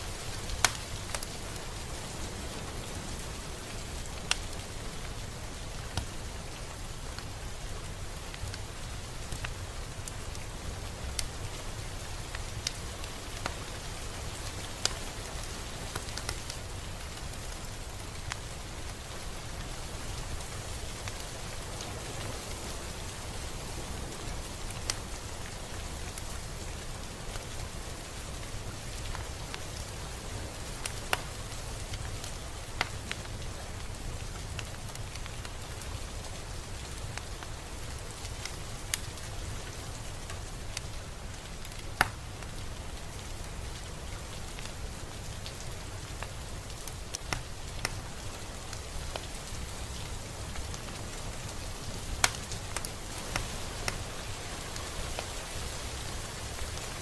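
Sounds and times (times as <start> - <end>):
rain falling: 0.0 - 57.0
raindrops ticking on a surface: 0.0 - 57.0.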